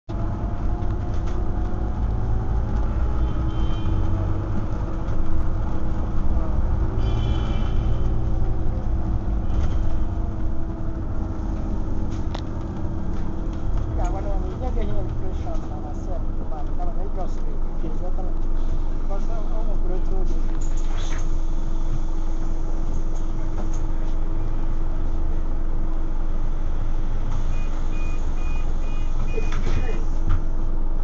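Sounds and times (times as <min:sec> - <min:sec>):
bus engine low rumble: 0:00.0 - 0:31.0.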